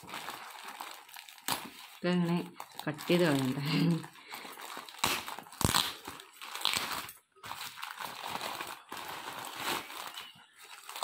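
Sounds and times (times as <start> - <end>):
plastic mailer bag crinkling: 0.0 - 11.0.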